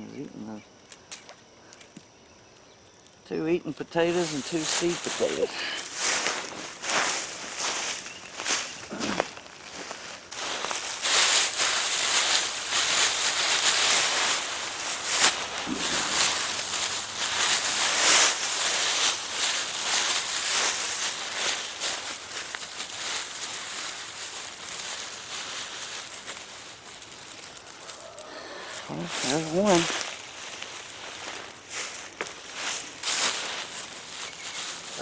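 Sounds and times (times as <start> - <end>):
scraping and rustling of soil: 4.0 - 35.0.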